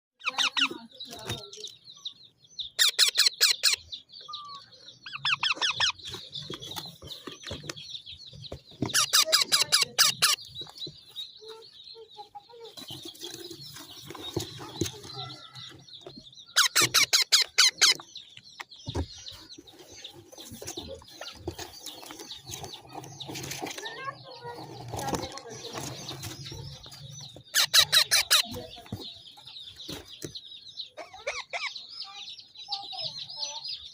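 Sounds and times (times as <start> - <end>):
birds chirping: 0.2 - 33.9
rapid rattling bird calls: 2.6 - 33.6.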